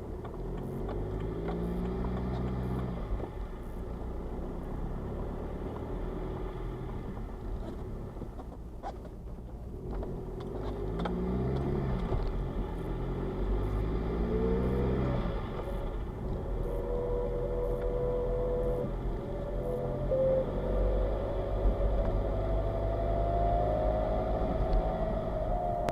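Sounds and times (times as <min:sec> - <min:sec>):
diesel car engine rumble: 0:00.0 - 0:25.9.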